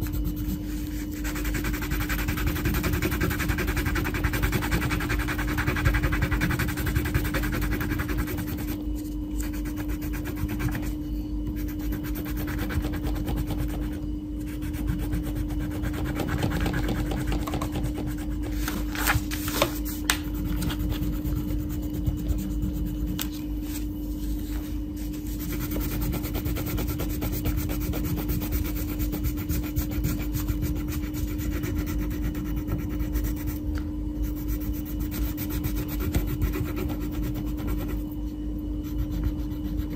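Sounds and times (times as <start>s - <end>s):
crayon scribbling on paper: 0.0s - 8.8s, 9.4s - 18.7s, 20.3s - 23.8s, 25.0s - 33.6s, 34.2s - 38.0s, 38.8s - 39.9s
constant low hum: 0.0s - 39.9s.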